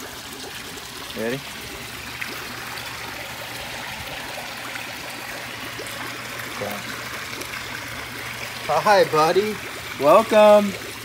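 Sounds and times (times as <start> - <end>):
water trickling into pond: 0.0 - 11.0.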